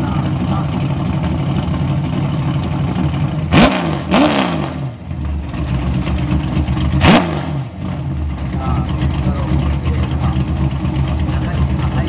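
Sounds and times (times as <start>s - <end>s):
car engine idling and revving: 0.0s - 12.0s
exhaust crack: 0.0s - 12.0s.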